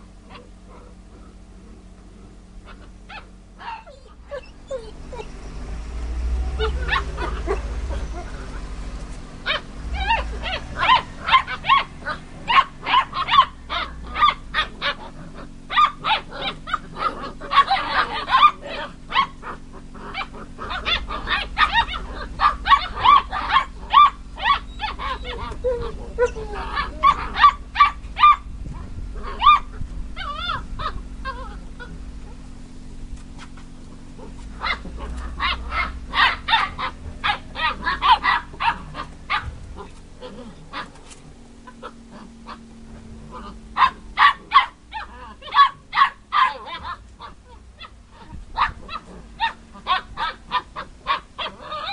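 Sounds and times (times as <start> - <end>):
puppies barking and yapping: 0.0 - 51.9.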